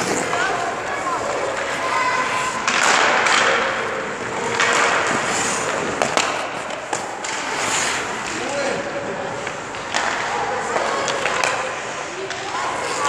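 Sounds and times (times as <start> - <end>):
hockey stick and puck clacks: 0.0 - 13.0
ice skates scraping on ice: 0.0 - 13.0.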